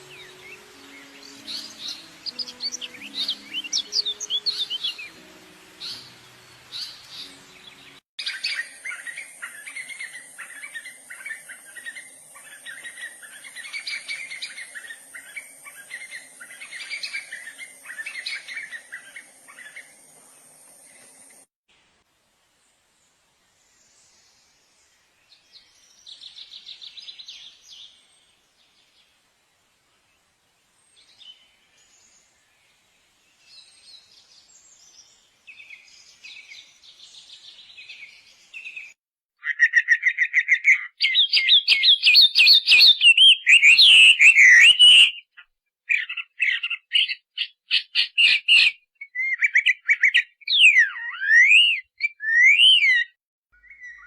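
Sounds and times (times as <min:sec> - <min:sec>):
songbirds singing: 0:00.0 - 0:21.4, 0:23.5 - 0:29.2, 0:30.1 - 0:54.0.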